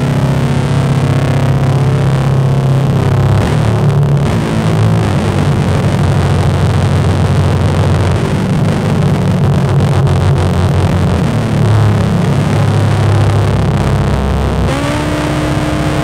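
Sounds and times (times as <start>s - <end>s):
loud low drone: 0.0s - 16.0s.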